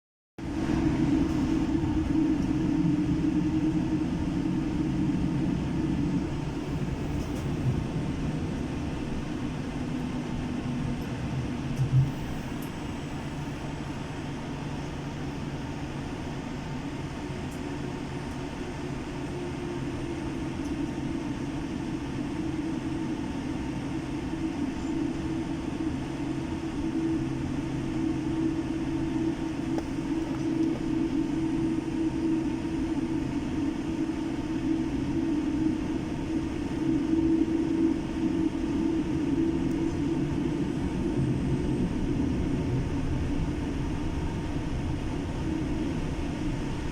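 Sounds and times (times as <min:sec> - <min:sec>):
jet engines droning: 0:00.4 - 0:46.9.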